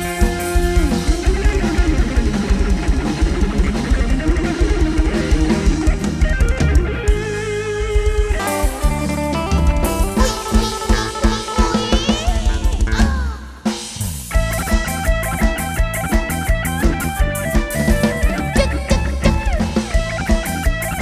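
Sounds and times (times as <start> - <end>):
electric guitar lead melody: 0.0 - 13.6, 14.3 - 21.0
drum kit: 0.0 - 21.0.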